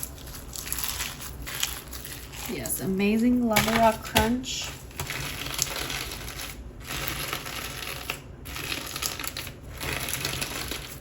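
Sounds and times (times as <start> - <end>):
lava rock slime crunching: 0.0 - 11.0.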